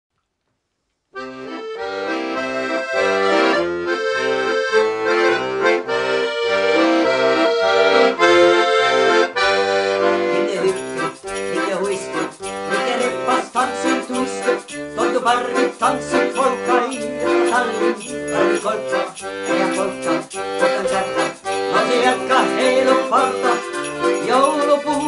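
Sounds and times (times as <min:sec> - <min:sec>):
accordion playing a polka: 0:01.2 - 0:25.0.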